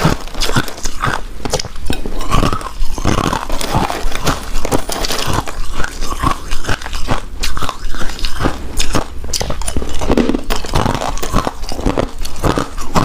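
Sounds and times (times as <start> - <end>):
chewing rice cake: 0.0 - 13.0.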